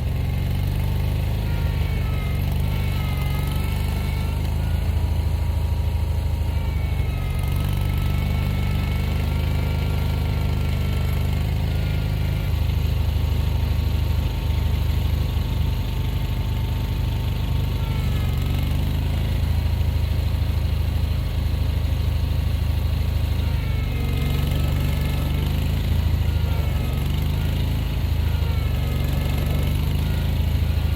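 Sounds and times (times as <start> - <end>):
gasoline engine running: 0.0 - 30.9.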